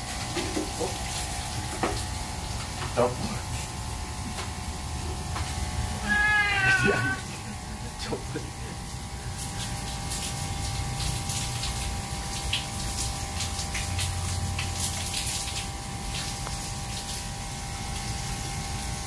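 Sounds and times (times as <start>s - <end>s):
water spraying from shower hose: 0.0s - 19.0s.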